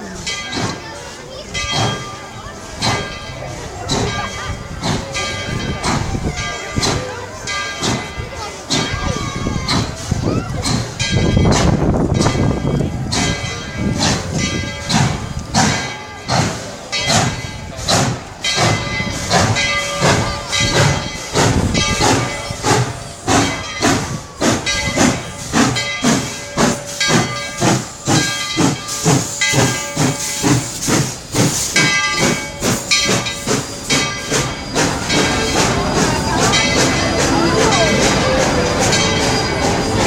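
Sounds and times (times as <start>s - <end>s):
steam locomotive chuffing: 0.0s - 40.0s
steam hissing: 0.1s - 40.0s.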